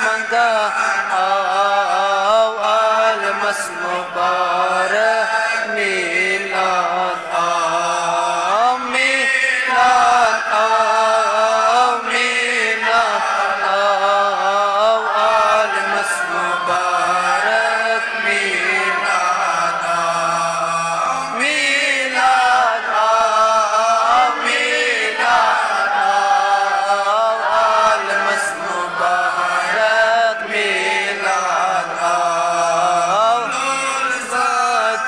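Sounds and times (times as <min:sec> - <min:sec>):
man chanting devotional poem: 0:00.0 - 0:35.0.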